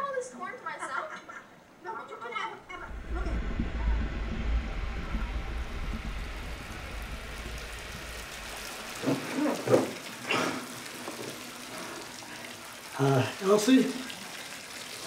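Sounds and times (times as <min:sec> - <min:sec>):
water pouring into bathtub: 0:02.8 - 0:15.0.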